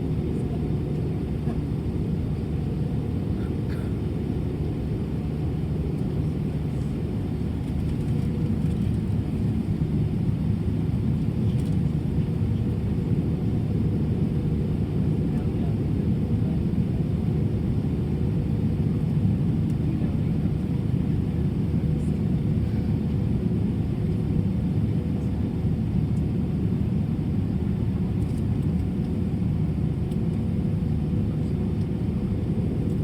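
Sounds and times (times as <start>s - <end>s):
aircraft cabin engine rumble: 0.0s - 33.0s.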